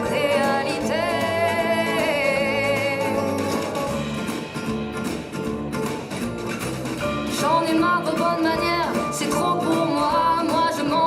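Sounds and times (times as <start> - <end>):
acoustic guitar backing: 0.0 - 11.0.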